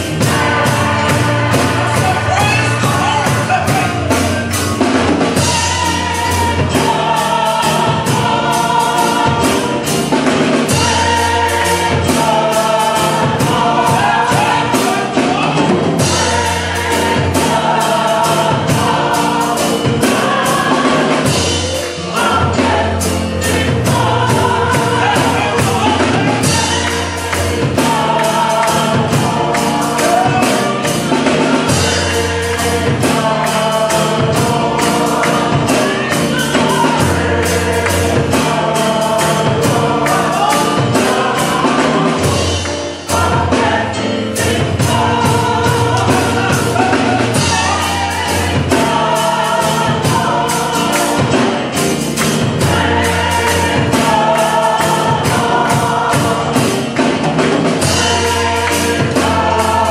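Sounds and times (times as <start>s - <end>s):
gospel choir singing: 0.0s - 59.9s
instrumental accompaniment with bass: 0.0s - 59.9s.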